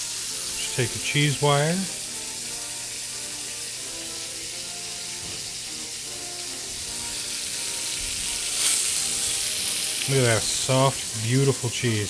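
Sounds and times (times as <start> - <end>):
burger sizzling in a pan: 0.0 - 12.0
quiet background music: 0.0 - 12.0.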